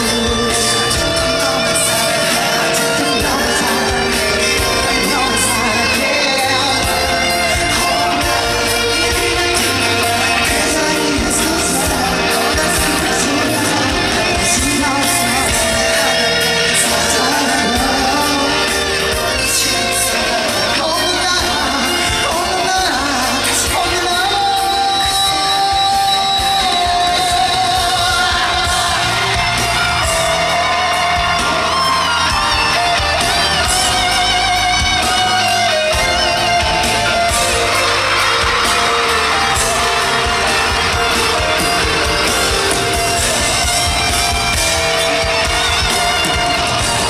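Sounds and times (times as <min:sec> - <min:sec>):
audience yelling: 0:00.0 - 0:47.0
person singing over backing track: 0:00.0 - 0:47.0.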